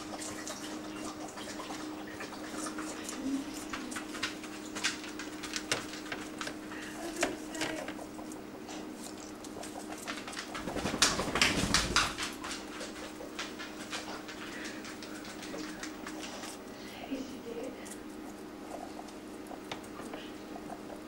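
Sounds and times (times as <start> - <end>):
guinea pig soft calls: 0.0 - 10.7, 12.6 - 21.0.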